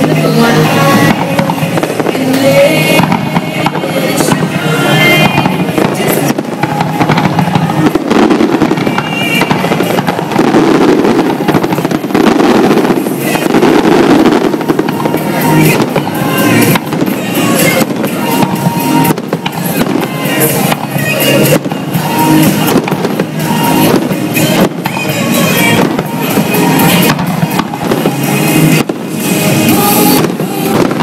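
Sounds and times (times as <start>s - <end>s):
fireworks booms and crackles: 0.0s - 31.0s.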